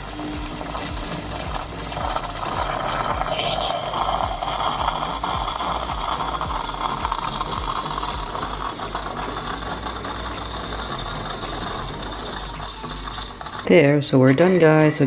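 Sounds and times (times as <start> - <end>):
coffee machine pump running: 0.0 - 14.9.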